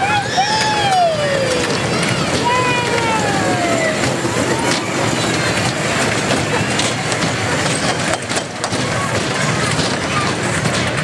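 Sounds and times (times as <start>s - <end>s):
toy train rumbling on track: 0.0s - 11.0s
wheels clicking and knocking: 0.0s - 11.0s.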